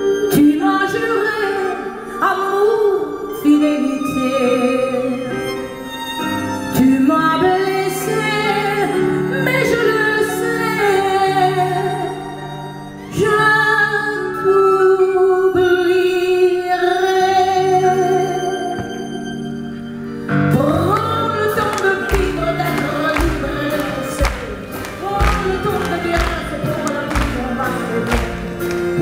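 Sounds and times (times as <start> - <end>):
woman singing into a microphone: 0.0 - 5.5, 6.8 - 19.0, 20.5 - 29.0
piano: 0.0 - 29.0
strings: 0.0 - 29.0.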